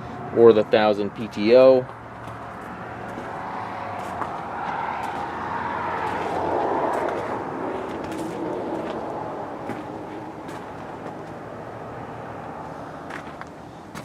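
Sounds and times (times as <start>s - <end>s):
steady engine noise: 0.0s - 14.0s.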